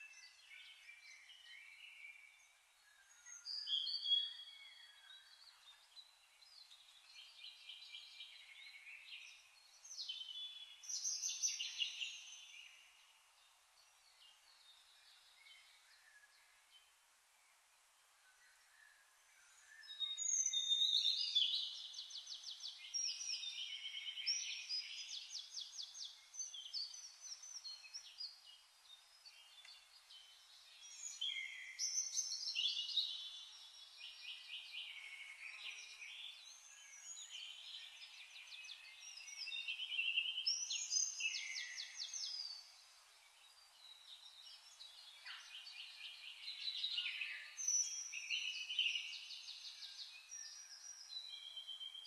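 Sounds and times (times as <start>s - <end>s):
songbirds singing: 0.0s - 52.0s.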